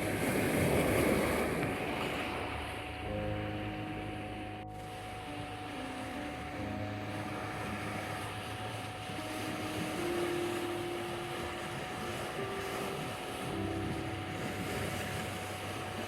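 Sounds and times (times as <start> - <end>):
sea surf: 0.0 - 16.0
soft held synth notes: 0.0 - 16.0
steady sine tone: 0.0 - 16.0.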